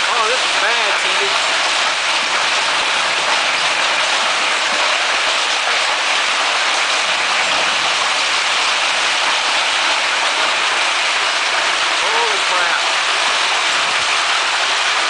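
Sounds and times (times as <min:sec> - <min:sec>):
hail pelting down: 0:00.0 - 0:15.0.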